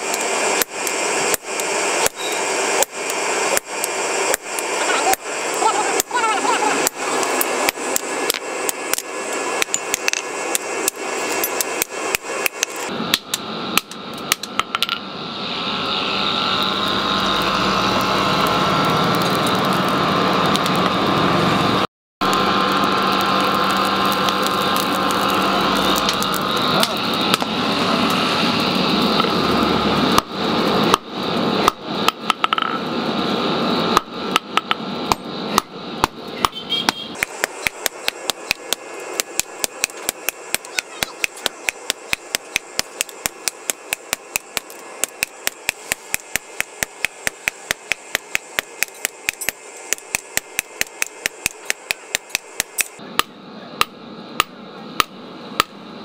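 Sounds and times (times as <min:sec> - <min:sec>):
steady machine noise: 0:00.0 - 0:56.0.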